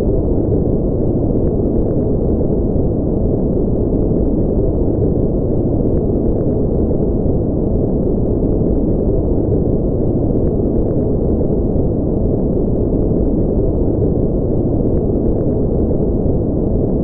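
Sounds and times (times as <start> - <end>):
deep muffled white noise: 0.0 - 17.0.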